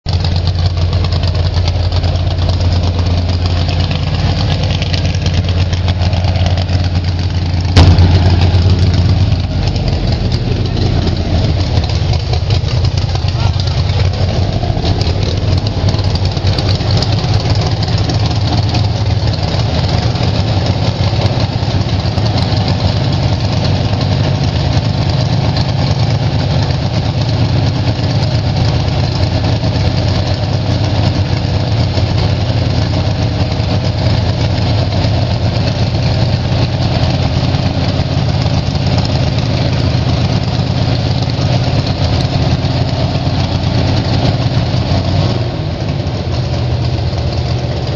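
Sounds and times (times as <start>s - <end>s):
dragster engine idling: 0.0s - 47.9s.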